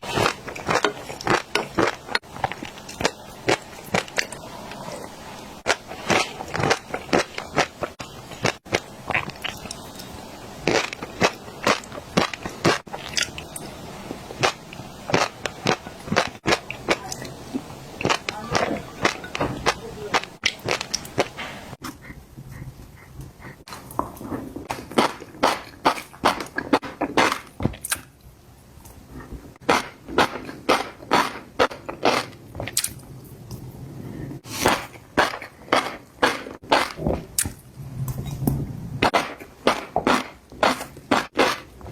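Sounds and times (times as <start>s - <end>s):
person chewing crunchy food: 0.0s - 28.2s, 28.9s - 33.6s, 34.4s - 41.9s.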